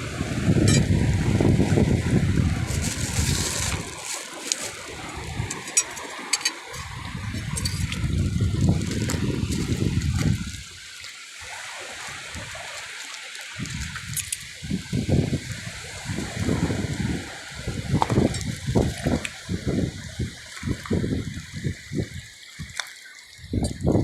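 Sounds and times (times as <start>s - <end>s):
seawater sloshing and trickling: 0.0s - 24.0s.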